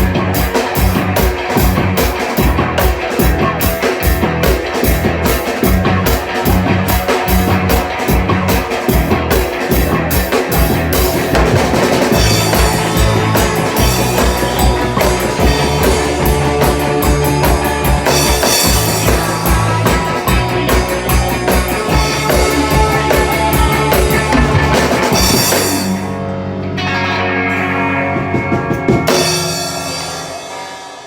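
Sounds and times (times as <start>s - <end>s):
drum kit: 0.0s - 31.0s
guitar chords: 0.0s - 31.0s.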